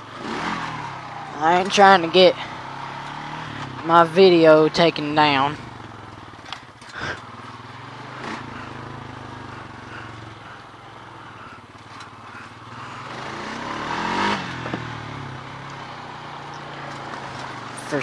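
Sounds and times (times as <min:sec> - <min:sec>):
off-road engine revving: 0:00.0 - 0:18.0.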